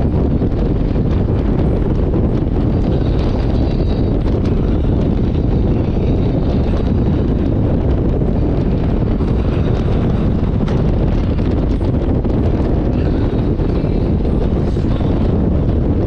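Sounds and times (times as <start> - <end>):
motorcycle running: 0.0 - 16.0
road noise: 0.0 - 16.0
wind noise on microphone: 0.0 - 16.0.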